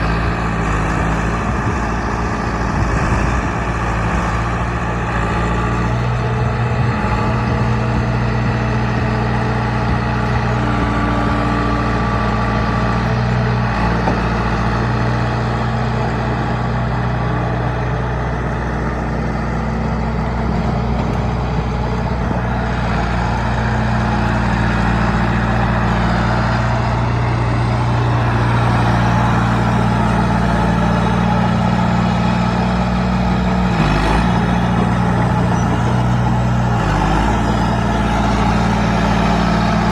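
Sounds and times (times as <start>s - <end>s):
diesel loader engine running: 0.0s - 39.9s.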